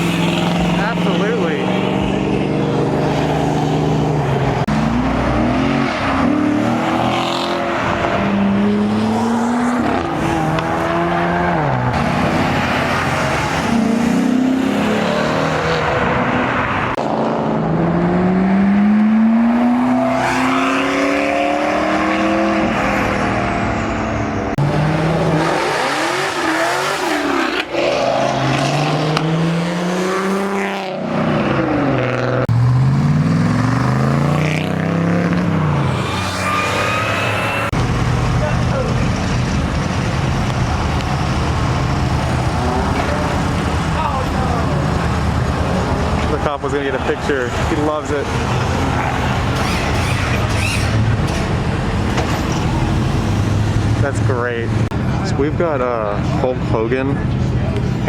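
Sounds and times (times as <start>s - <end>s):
cars accelerating hard past: 0.0s - 55.1s.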